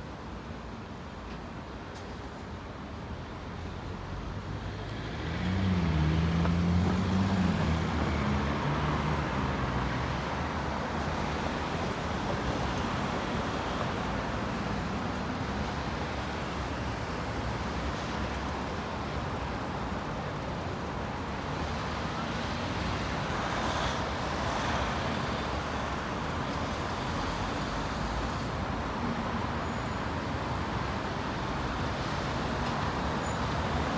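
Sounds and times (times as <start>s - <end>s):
traffic and tyre noise: 0.0s - 33.9s.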